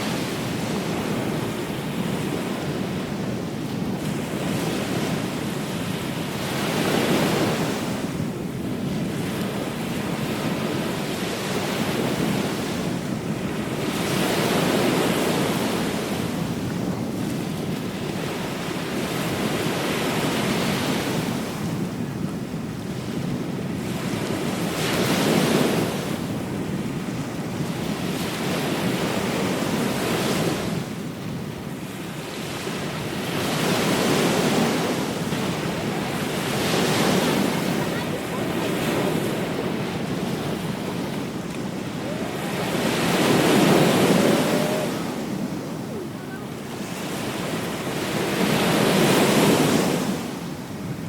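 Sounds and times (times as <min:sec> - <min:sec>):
ocean waves breaking on beach: 0:00.0 - 0:51.0.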